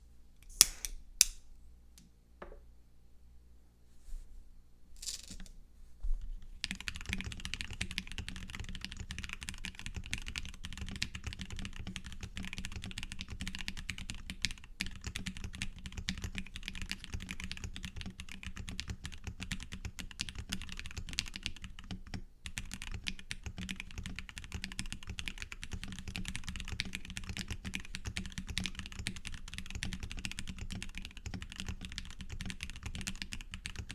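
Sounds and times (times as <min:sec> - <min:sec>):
mechanical keyboard typing: 0:06.6 - 0:33.9.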